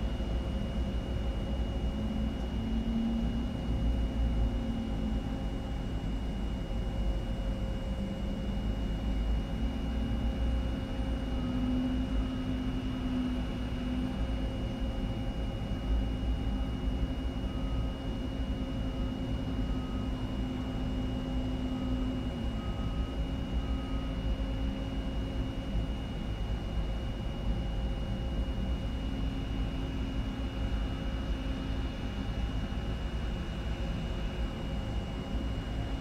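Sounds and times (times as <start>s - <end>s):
jet engines rumbling and whining: 0.0s - 36.0s.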